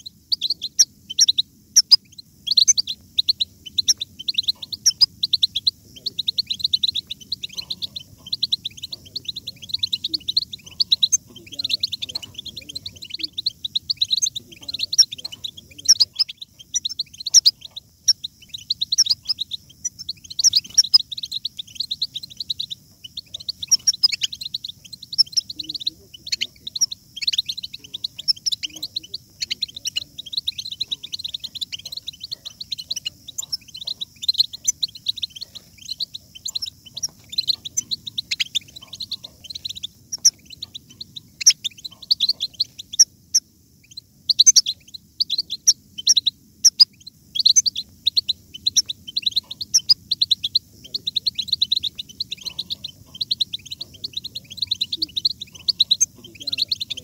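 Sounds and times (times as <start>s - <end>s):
birds twittering: 0.0s - 57.0s.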